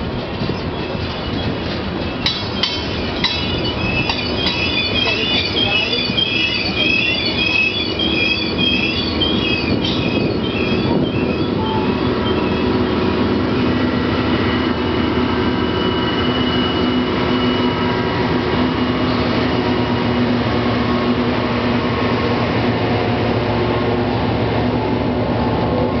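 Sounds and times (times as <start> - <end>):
locomotive engine drone: 0.0 - 26.0
rumble of rails: 0.0 - 26.0.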